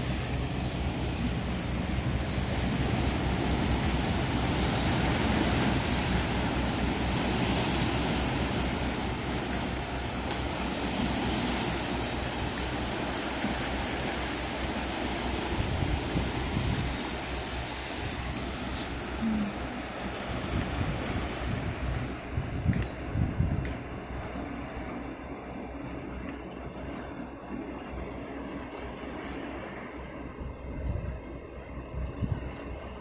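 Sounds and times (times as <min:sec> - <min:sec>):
wind and waves rushing: 0:00.0 - 0:33.0
wind rumbling on microphone: 0:00.0 - 0:33.0.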